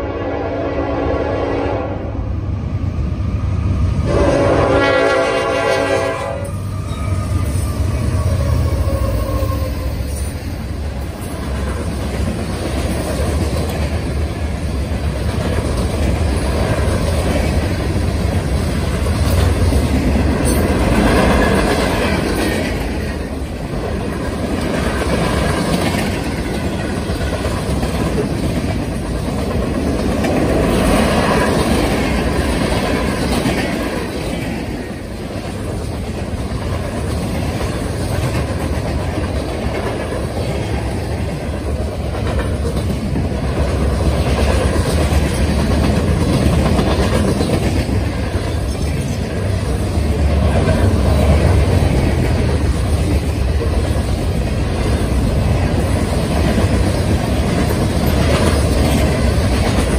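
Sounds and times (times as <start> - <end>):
diesel locomotive low rumble: 0.0 - 59.9
train wheels clattering on rails: 4.0 - 59.9.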